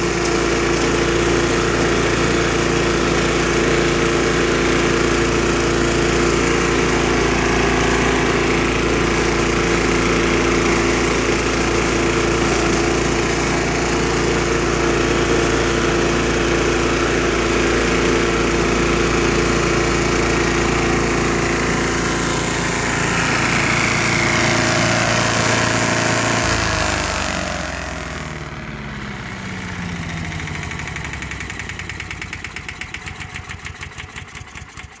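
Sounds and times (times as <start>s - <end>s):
small gas engine running: 0.0s - 35.0s.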